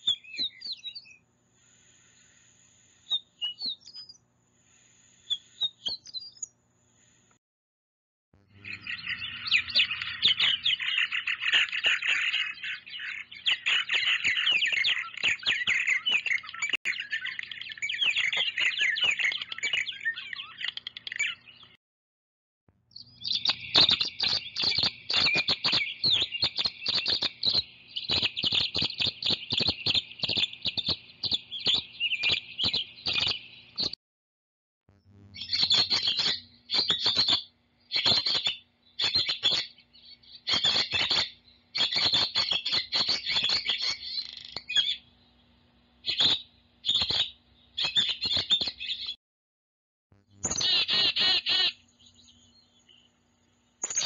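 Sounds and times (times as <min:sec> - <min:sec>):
rapid bird chirps: 0:00.0 - 0:07.4, 0:08.4 - 0:21.8, 0:22.9 - 0:34.0, 0:35.1 - 0:49.2, 0:50.3 - 0:54.0.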